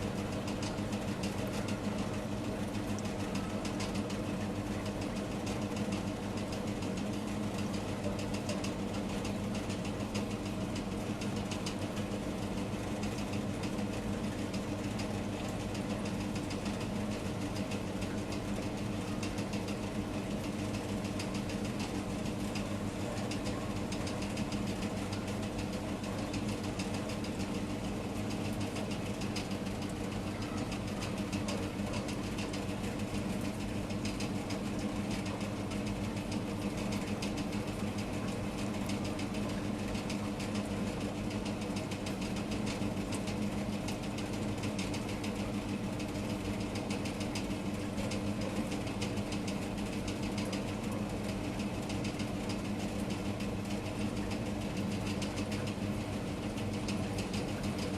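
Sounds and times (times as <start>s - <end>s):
constant low hum: 0.0s - 57.9s.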